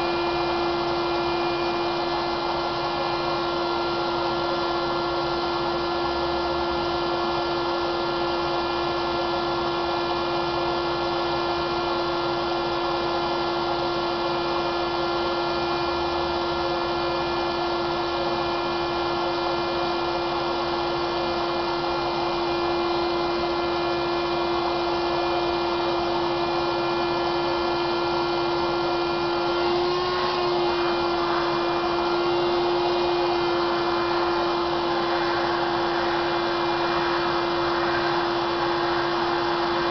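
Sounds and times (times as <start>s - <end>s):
electric blower motor whining: 0.0s - 39.9s.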